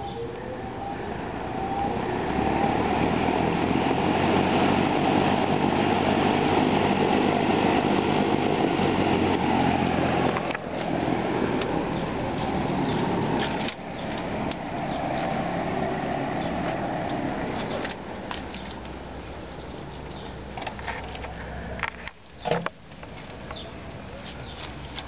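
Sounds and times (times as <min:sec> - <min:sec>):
box fan running: 0:00.0 - 0:25.0.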